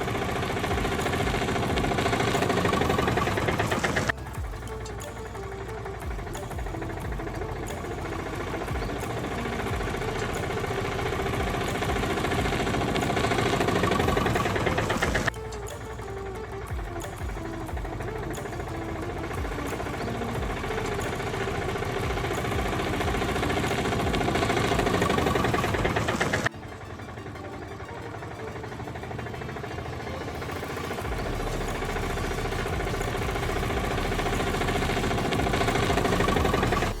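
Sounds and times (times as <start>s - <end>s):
small engine rattling: 0.0s - 26.5s, 28.0s - 37.0s.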